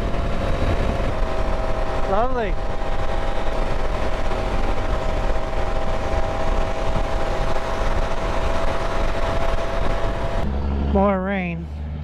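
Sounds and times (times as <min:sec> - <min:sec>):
wind noise on microphone: 0:00.0 - 0:10.6
motorcycle engine running: 0:00.0 - 0:12.0.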